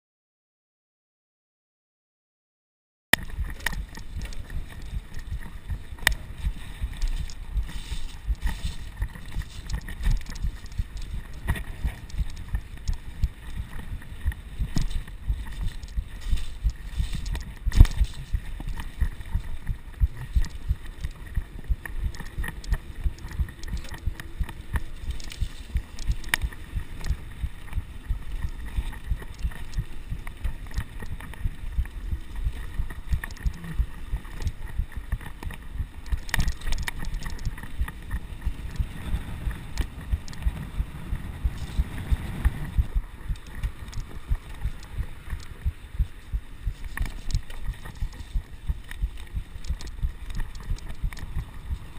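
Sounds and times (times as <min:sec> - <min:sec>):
bike knocks and rattles: 0:03.2 - 0:51.9
tyres and wind rumble: 0:03.2 - 0:51.9.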